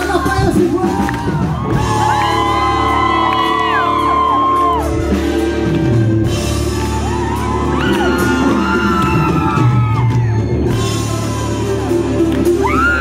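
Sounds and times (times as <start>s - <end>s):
crowd shouting and singing: 0.0s - 13.0s
live band music: 0.0s - 13.0s.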